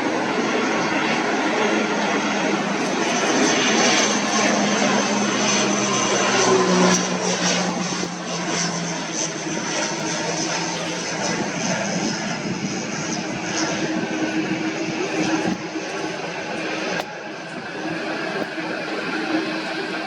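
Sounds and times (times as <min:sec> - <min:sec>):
aircraft engines passing: 0:00.0 - 0:20.0.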